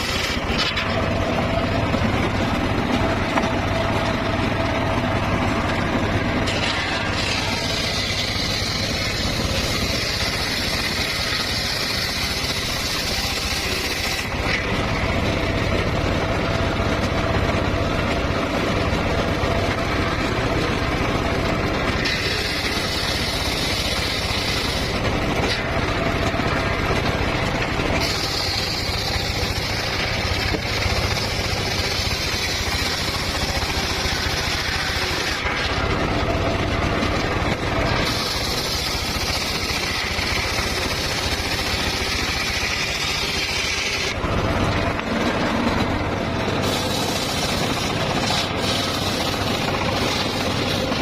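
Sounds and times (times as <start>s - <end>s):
saw blade whining through log: 0.0s - 51.0s
sawmill engine drone: 0.0s - 51.0s.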